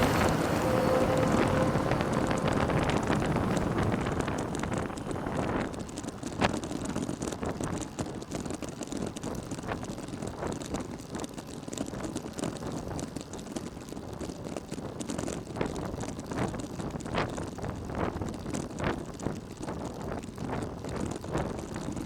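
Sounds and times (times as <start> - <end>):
wind and road noise: 0.0 - 22.0
wind buffeting microphone: 0.0 - 22.0.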